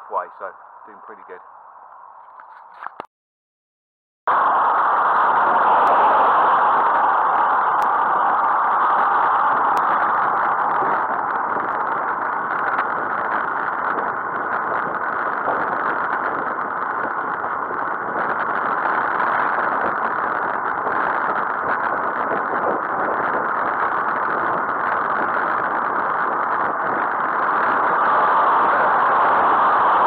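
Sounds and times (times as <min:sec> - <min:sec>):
bike tyre noise on tarmac: 0:00.0 - 0:03.1, 0:04.3 - 0:30.0
wind rushing over microphone: 0:04.3 - 0:30.0.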